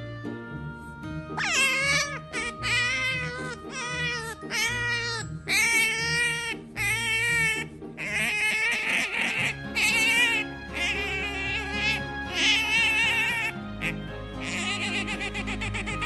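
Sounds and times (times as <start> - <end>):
cat meowing: 1.4 - 16.0.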